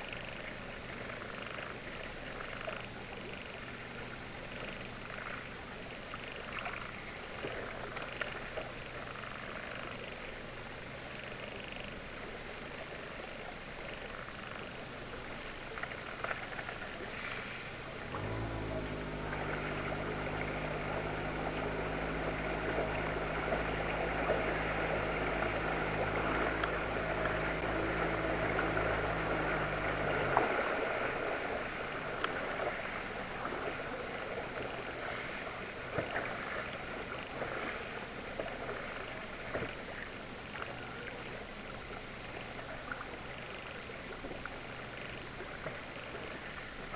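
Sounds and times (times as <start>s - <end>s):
outboard motor running: 0.0s - 46.9s
water lapping: 0.0s - 46.9s
water rushing along hull: 0.0s - 46.9s
wind: 0.0s - 46.9s.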